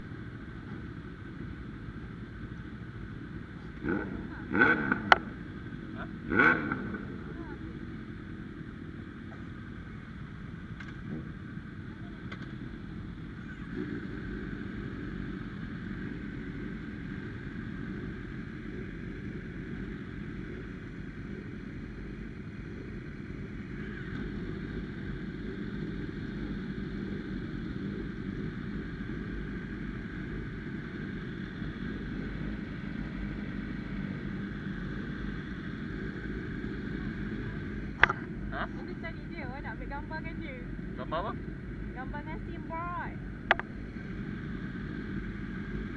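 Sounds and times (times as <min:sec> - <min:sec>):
vehicle engine and road drone: 0:00.0 - 0:45.9.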